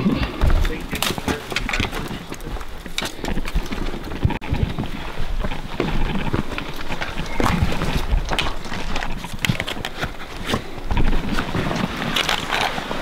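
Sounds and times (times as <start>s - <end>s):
footsteps on rock: 0.0s - 13.0s
wind rumbling on microphone: 0.0s - 13.0s
deer carcass scraping on rock: 0.2s - 13.0s.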